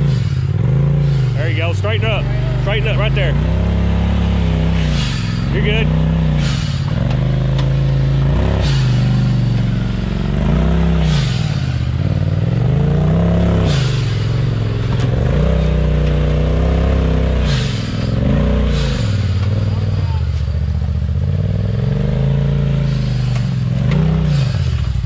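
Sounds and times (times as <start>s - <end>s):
utility vehicle engine revving: 0.0s - 25.0s.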